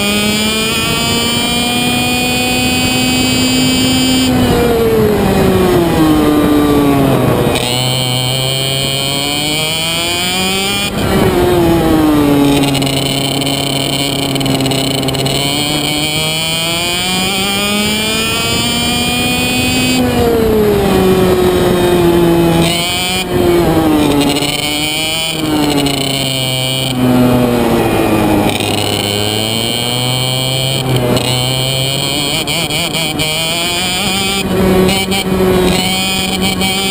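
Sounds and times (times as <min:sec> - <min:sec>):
kart engine racing: 0:00.0 - 0:36.9.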